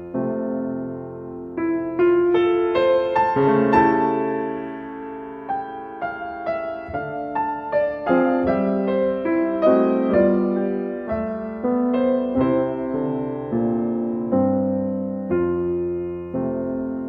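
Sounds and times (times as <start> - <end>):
piano notes and chords: 0.0 - 17.0.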